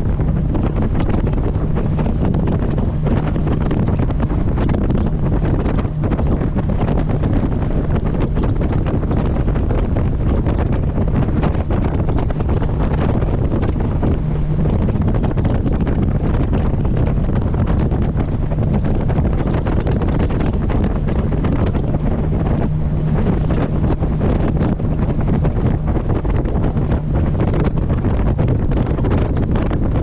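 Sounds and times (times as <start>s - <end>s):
boat engine hum: 0.0s - 30.0s
water rushing along hull: 0.0s - 30.0s
wind buffeting microphone: 0.0s - 30.0s.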